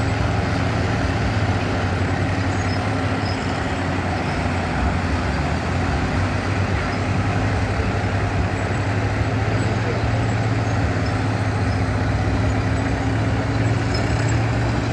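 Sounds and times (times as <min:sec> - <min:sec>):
excavator diesel engine droning: 0:00.0 - 0:14.9.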